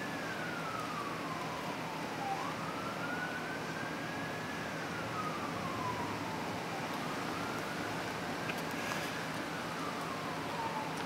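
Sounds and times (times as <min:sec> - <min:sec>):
siren wailing: 0:00.0 - 0:08.2, 0:09.4 - 0:11.0.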